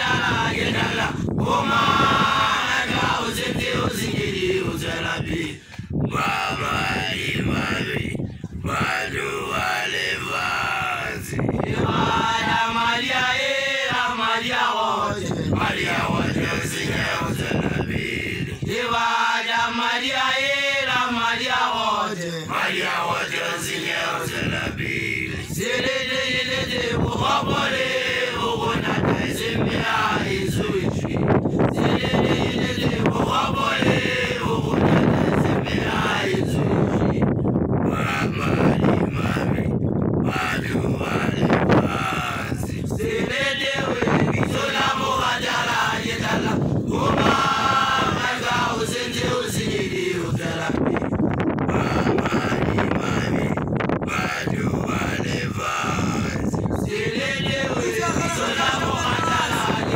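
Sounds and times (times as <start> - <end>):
young man chanting loudly: 0.0 - 37.3, 37.9 - 51.1, 51.7 - 59.9
voices joining in chant: 0.0 - 59.9.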